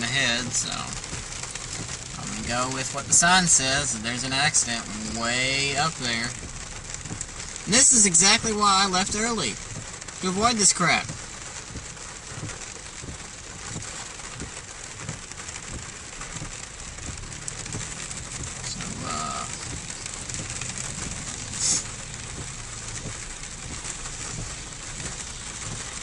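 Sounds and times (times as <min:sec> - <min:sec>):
rain and road noise in a car: 0:00.0 - 0:26.0.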